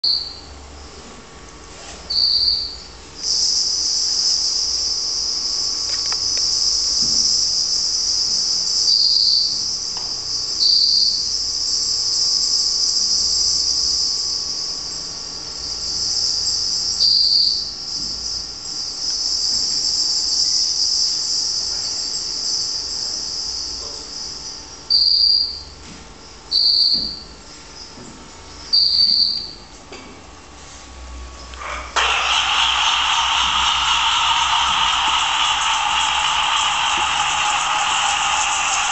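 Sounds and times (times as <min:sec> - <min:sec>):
high cricket chirps: 0:00.0 - 0:01.0, 0:02.1 - 0:29.7, 0:32.8 - 0:38.9
insect chorus high buzzing: 0:00.0 - 0:01.0, 0:02.1 - 0:29.7, 0:31.2 - 0:38.9.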